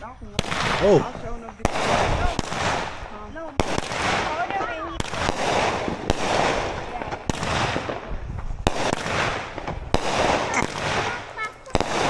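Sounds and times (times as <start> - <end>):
fireworks bangs: 0.0 - 12.0
fireworks crackling hiss: 0.0 - 12.0.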